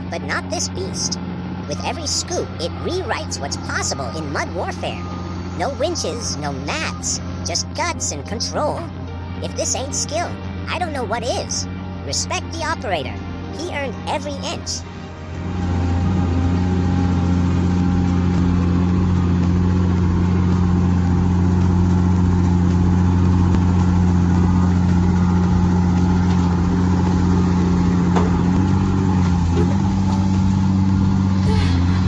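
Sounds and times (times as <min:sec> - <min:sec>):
heavy machine engine droning: 0:00.0 - 0:32.0.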